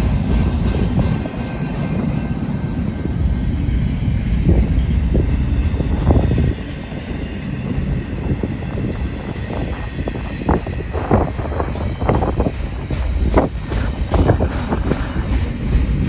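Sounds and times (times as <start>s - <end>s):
freight train wheels rumbling on rails: 0.0s - 16.0s
train knocks: 0.0s - 16.0s.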